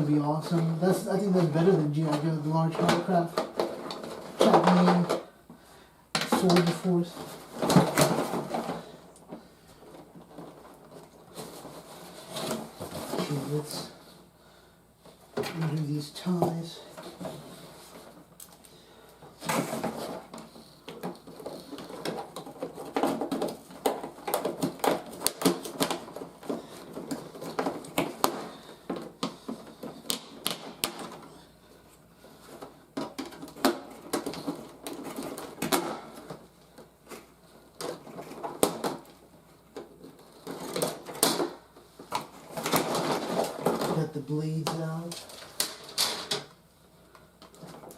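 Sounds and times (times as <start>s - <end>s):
plastic packaging rustling: 0.0s - 47.9s.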